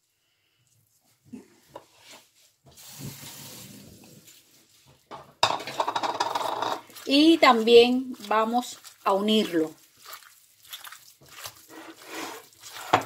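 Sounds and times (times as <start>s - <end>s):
wet scraping from bowl: 1.8s - 13.0s.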